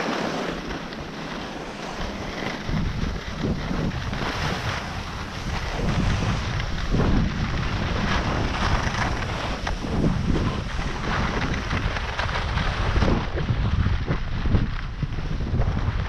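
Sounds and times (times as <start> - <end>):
skis sliding over snow: 0.0 - 16.0
wind buffeting microphone: 0.0 - 16.0.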